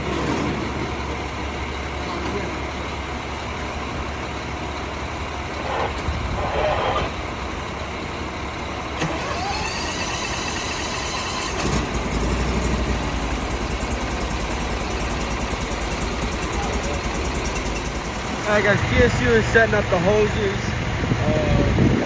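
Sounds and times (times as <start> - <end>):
heavy truck engines running: 0.0 - 22.0.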